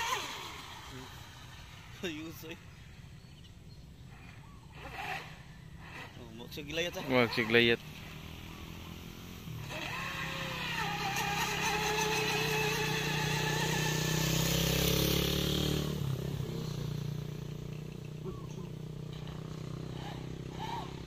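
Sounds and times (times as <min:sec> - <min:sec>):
toy speedboat motor passing: 0:00.0 - 0:02.6, 0:04.2 - 0:16.0, 0:17.9 - 0:21.0.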